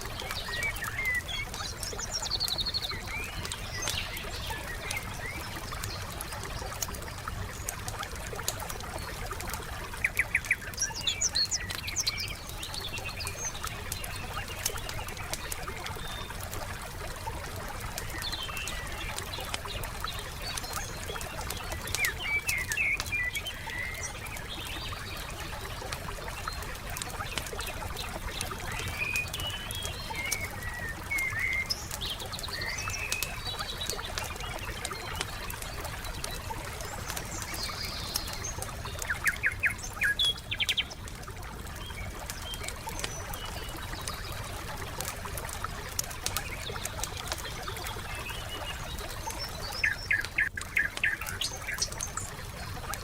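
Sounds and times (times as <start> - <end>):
small birds chirping: 0.0 - 53.0
wood fire crackling: 0.0 - 53.0.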